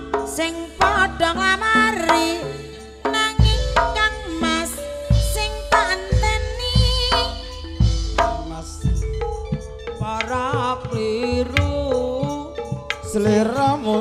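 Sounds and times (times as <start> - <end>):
hand drum strokes: 0.0 - 14.0
wavering high melodic line: 0.0 - 14.0.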